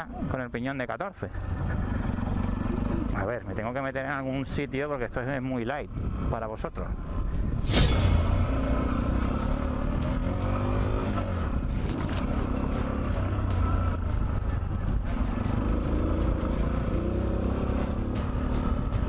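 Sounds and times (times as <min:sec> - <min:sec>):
motorcycle engine revving: 0:01.3 - 0:04.7, 0:05.9 - 0:19.0.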